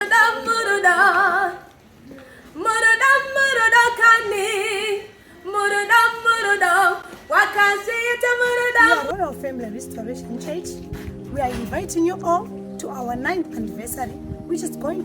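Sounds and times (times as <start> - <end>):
woman singing with vibrato: 0.0 - 1.7, 2.5 - 15.0.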